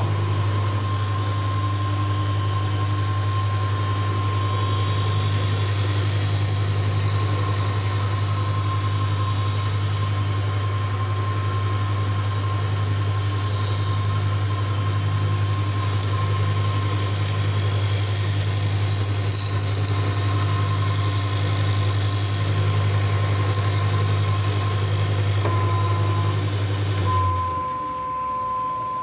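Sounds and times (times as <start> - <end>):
grinding motor humming: 0.0 - 29.0.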